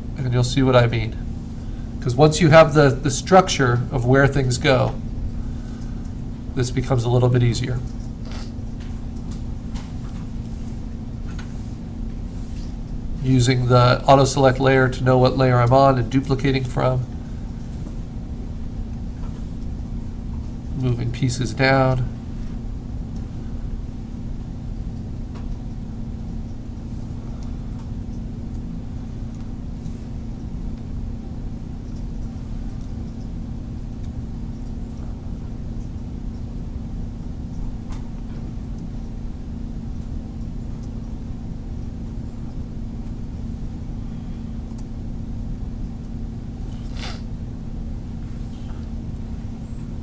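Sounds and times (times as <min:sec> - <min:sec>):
low droning hum: 0:00.0 - 0:50.0.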